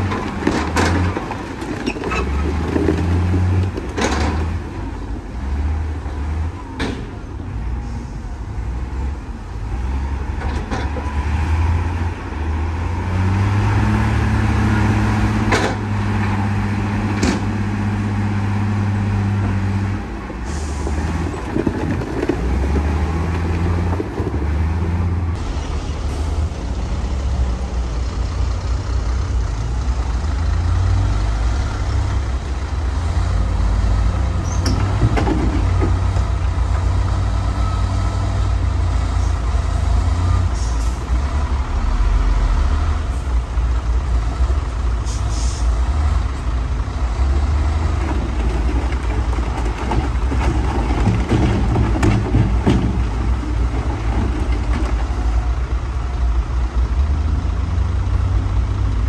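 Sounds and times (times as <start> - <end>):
heavy diesel engines rumbling: 0.0 - 59.0.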